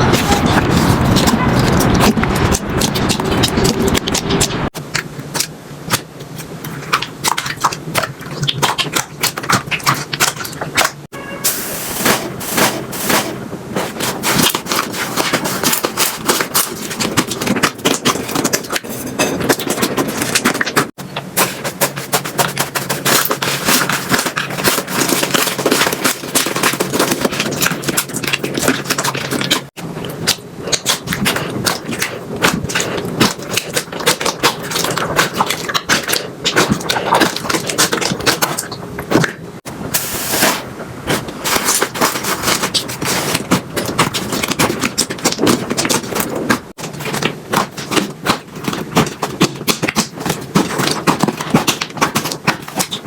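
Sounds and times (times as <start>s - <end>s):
slime crackling and popping: 0.0s - 18.9s, 19.5s - 53.0s.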